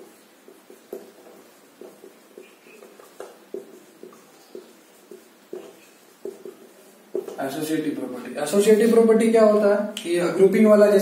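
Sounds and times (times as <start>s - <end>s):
marker writing on whiteboard: 0.0s - 10.9s.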